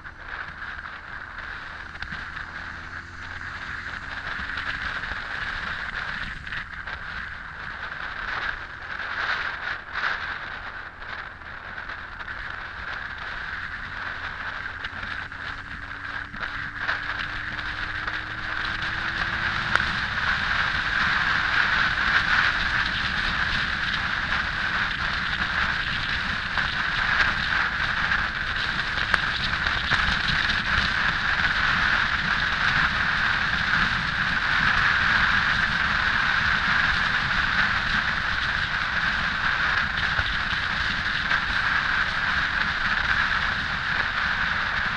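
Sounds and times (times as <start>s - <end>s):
motorcycle engine: 0.0s - 44.9s
wind rushing over camera: 0.0s - 44.9s.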